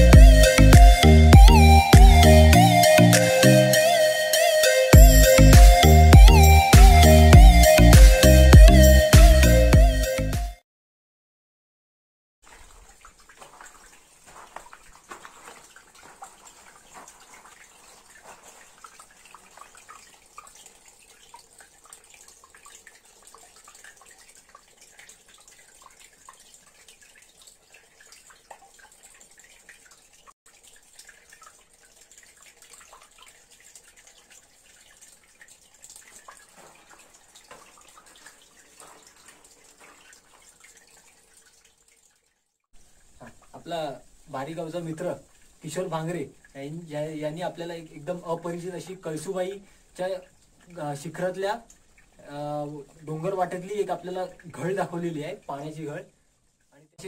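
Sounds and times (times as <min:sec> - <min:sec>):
water trickling into a pool: 0:00.0 - 0:10.3, 0:12.4 - 0:57.0
water drips: 0:00.0 - 0:10.4, 0:12.4 - 0:57.0.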